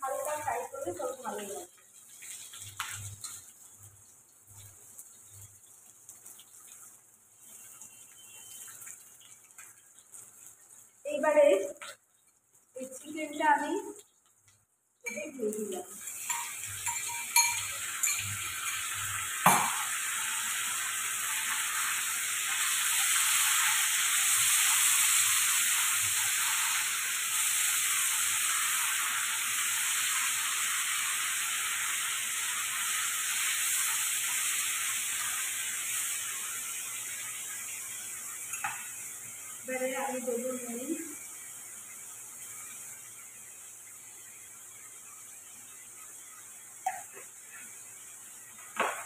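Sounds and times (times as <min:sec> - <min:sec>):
chicken sizzling in a wok: 0:00.0 - 0:49.0.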